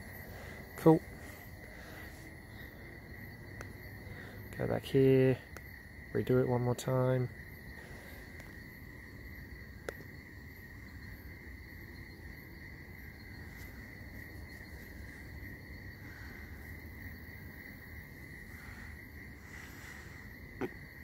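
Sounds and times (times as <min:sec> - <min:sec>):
night insects trilling: 0:00.0 - 0:21.0.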